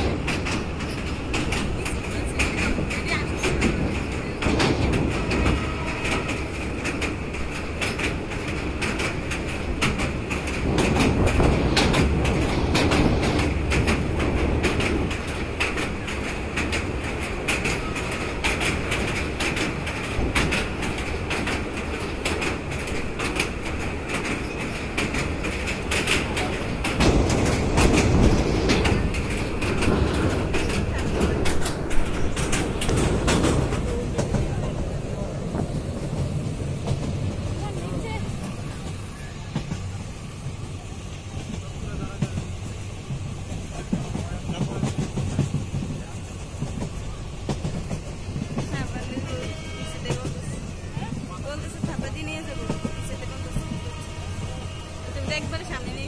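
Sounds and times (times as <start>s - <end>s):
train wheels clattering over rails: 0.0s - 56.0s.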